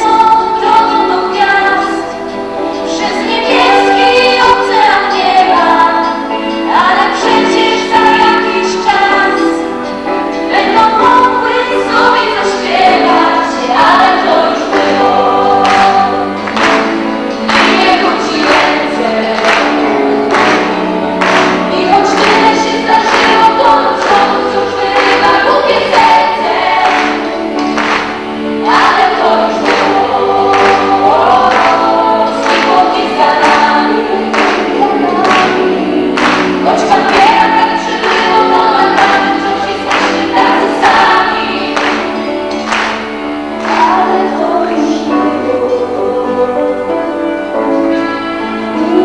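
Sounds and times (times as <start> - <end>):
instrumental accompaniment: 0.0 - 49.0
voices singing together: 0.0 - 49.0.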